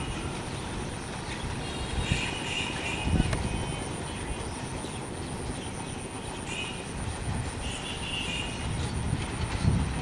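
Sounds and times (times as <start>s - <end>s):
train rumbling and clattering: 0.0s - 10.0s.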